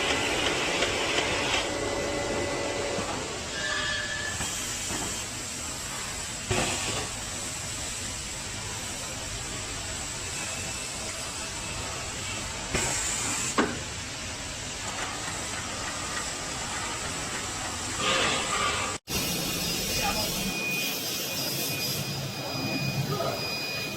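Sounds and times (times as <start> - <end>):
factory machinery running: 0.0 - 23.9.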